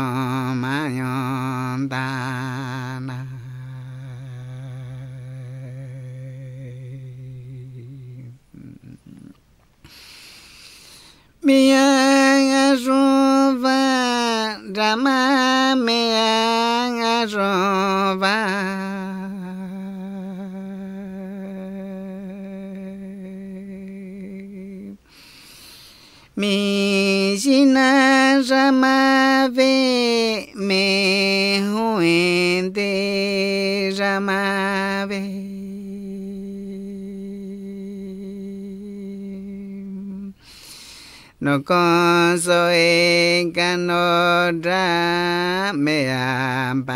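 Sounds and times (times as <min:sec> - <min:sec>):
man singing and humming: 0:00.0 - 0:46.9.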